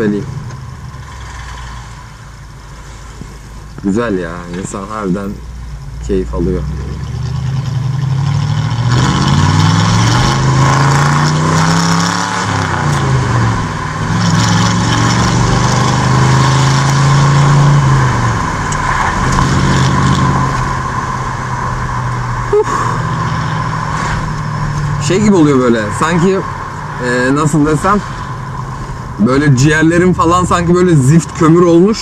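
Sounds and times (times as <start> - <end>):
car engine from inside cabin: 0.0 - 32.0.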